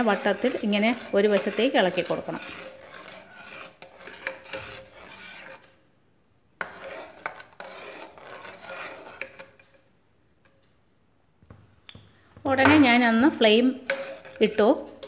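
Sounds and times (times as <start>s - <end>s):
ladle scraping metal pot: 0.0s - 5.8s, 6.6s - 10.6s, 12.4s - 15.0s.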